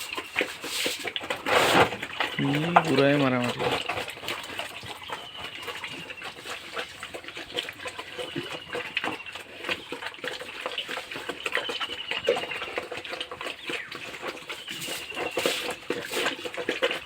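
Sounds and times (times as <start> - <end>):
pigs eating wet feed: 0.0 - 17.0.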